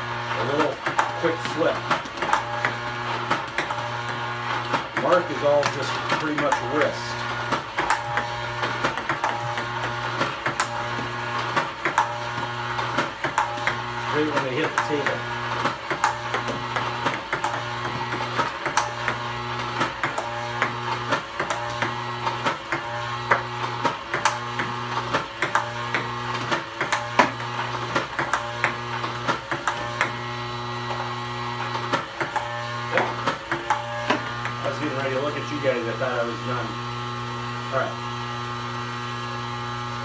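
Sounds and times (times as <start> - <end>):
electric buzz of ball robot: 0.0 - 40.0
ball clicking on paddle and table: 0.6 - 30.2, 31.8 - 35.3.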